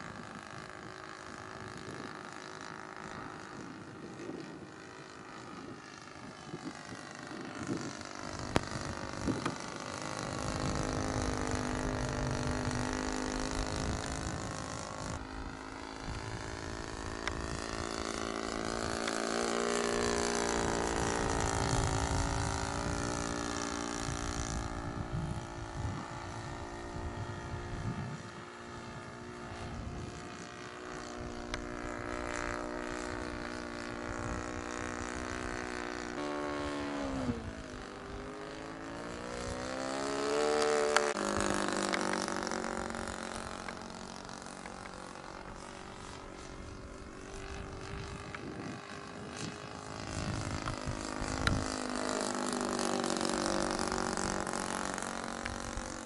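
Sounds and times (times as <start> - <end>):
model aircraft engine in flight: 0.0 - 56.0.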